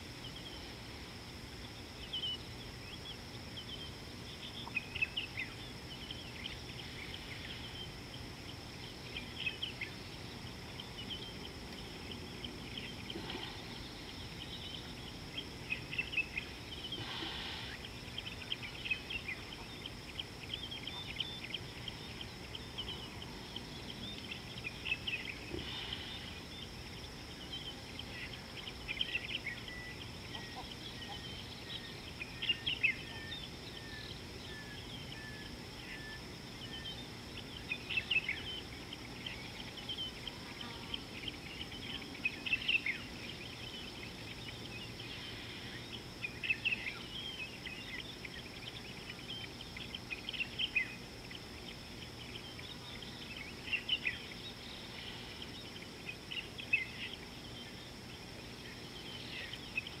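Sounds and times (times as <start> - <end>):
birds chirping: 0.0 - 60.0
high insect hum: 0.0 - 60.0
low outdoor background noise: 0.0 - 60.0.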